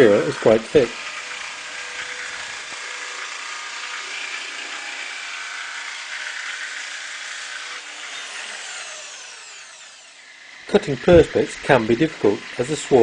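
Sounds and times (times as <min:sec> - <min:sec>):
jigsaw cutting metal: 0:00.0 - 0:13.0.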